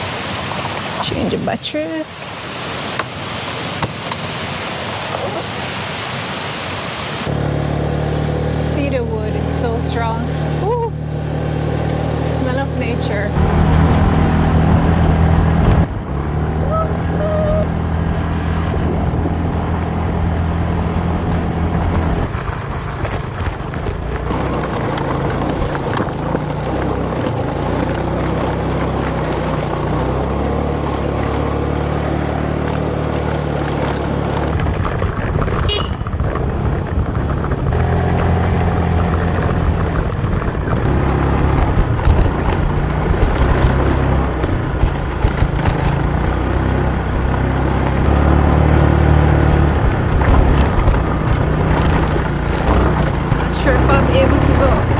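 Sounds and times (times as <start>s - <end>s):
motor scooter engine: 7.2s - 54.9s.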